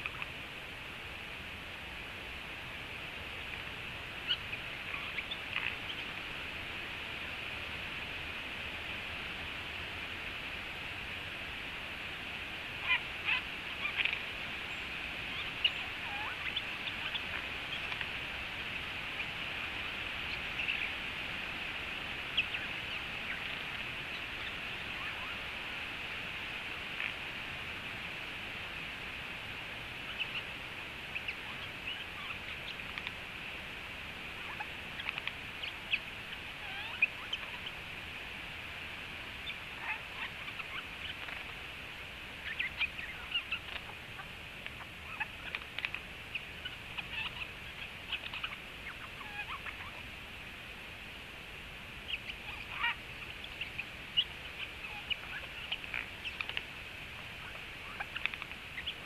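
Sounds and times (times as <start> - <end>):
steady high hiss: 0.0 - 59.0.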